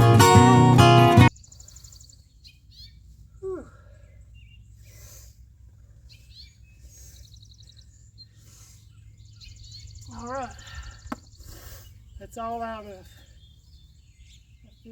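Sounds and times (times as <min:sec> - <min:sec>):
birds chirping in trills: 0:01.3 - 0:14.9.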